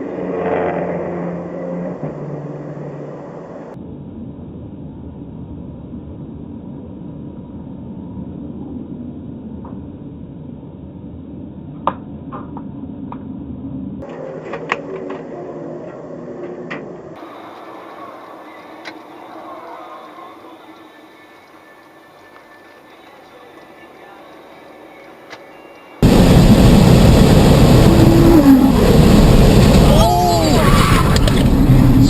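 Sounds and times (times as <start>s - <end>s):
car engines rumbling: 0.0s - 21.1s, 26.0s - 32.0s.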